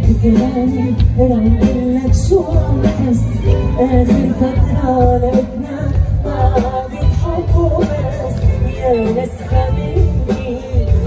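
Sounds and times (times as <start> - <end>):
live pop band music: 0.0 - 11.0.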